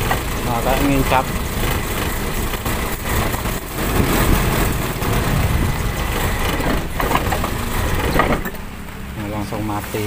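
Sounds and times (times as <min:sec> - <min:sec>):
car engine sputtering: 0:00.0 - 0:10.0.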